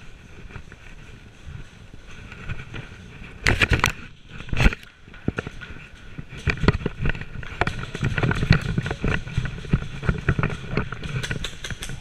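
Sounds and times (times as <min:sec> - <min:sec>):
gear rattling: 0:00.0 - 0:12.0.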